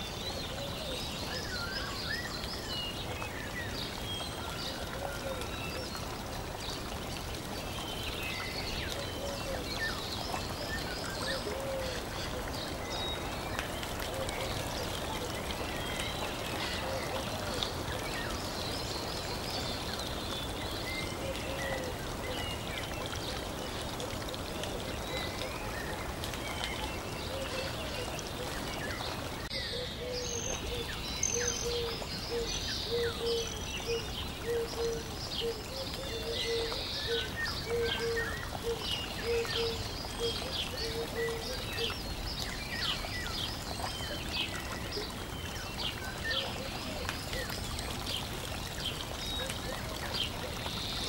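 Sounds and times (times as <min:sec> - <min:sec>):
running water: 0:00.0 - 0:51.0.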